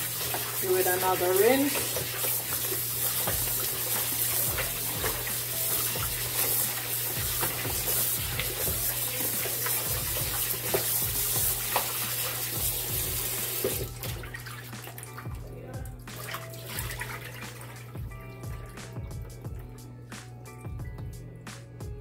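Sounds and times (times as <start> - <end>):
water splashing and sloshing: 0.0 - 19.8.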